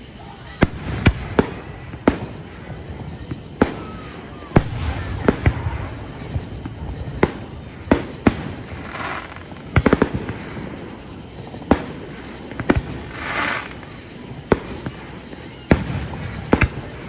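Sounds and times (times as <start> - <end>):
firework crackling and hissing: 0.0 - 17.0
firework shells bursting: 0.6 - 17.0.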